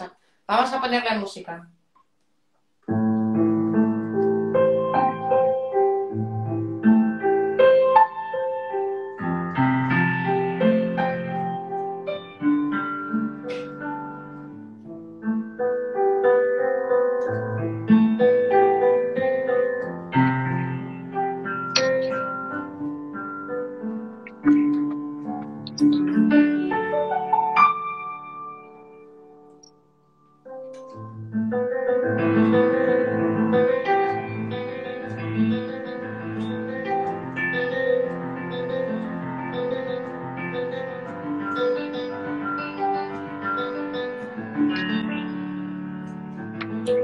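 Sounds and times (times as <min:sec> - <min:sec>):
slow piano melody: 0:02.8 - 0:47.0.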